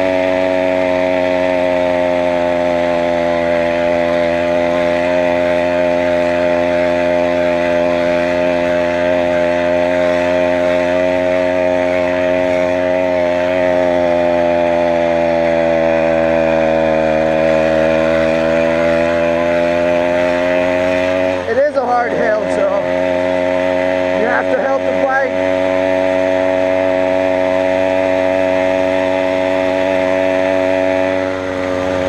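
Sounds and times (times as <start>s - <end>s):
two-stroke engine running: 0.0s - 32.0s.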